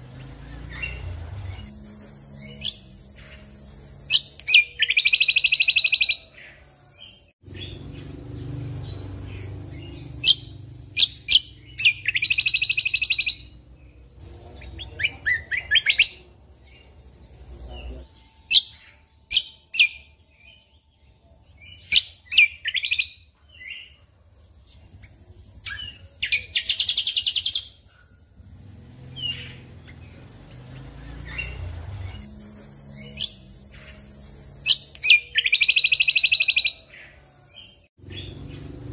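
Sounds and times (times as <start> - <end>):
bird singing fast trilled phrases: 0.0 - 1.7, 2.4 - 24.0, 24.6 - 38.9.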